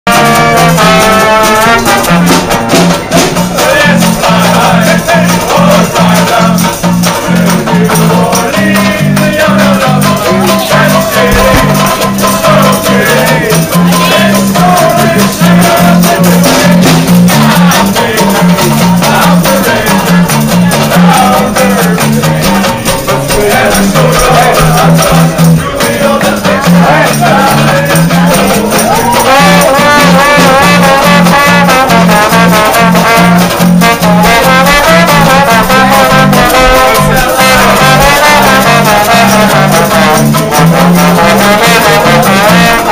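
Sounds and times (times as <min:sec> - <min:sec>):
saxophone: 0:00.0 - 0:07.9, 0:08.5 - 0:25.8, 0:26.5 - 0:42.9
brass band playing dance music: 0:00.0 - 0:42.9
trombone: 0:00.0 - 0:42.9
banjo strumming: 0:00.1 - 0:42.9
drum kit beat: 0:00.1 - 0:42.9.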